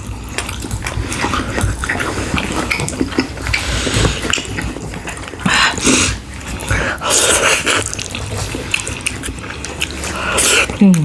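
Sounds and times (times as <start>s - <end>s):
wet chewing and mouth smacking: 0.0s - 11.0s.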